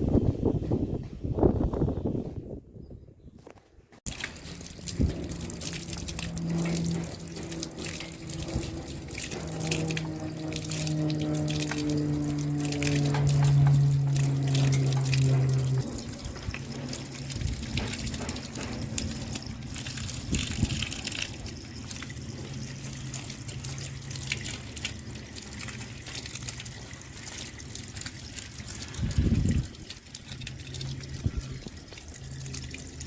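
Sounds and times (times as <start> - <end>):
water running and trickling: 4.0 - 33.0
steady low hum: 4.1 - 33.0.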